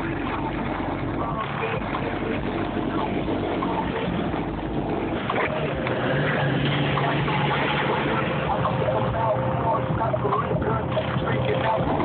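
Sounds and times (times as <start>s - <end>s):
bass-heavy music through subwoofers: 0.0s - 12.0s.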